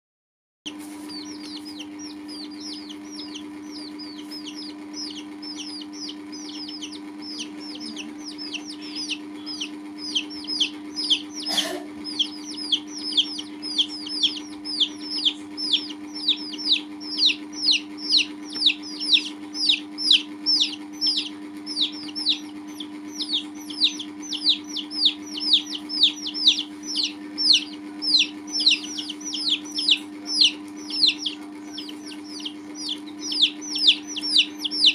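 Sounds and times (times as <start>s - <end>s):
chicks peeping: 0.7s - 34.9s
low hum: 0.8s - 34.9s.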